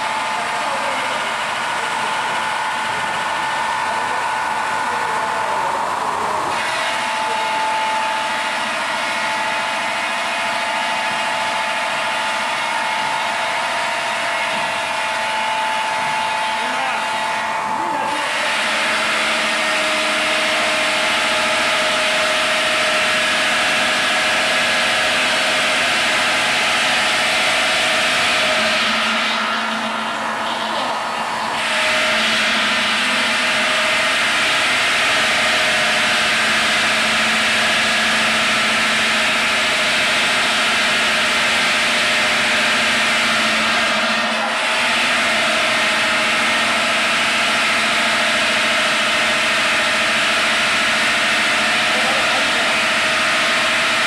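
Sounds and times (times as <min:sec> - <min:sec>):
motor hum: 0:00.0 - 0:54.0.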